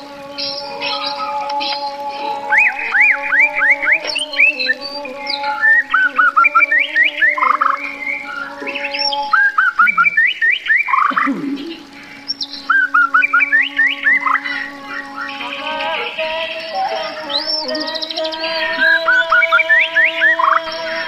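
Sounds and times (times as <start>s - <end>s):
bird-like chirping: 0.4s - 21.0s.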